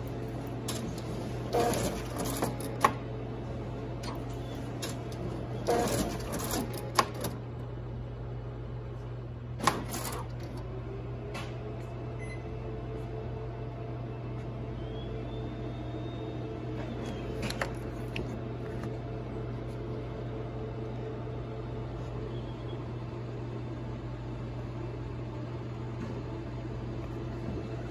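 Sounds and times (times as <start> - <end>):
printer humming: 0.0 - 27.9.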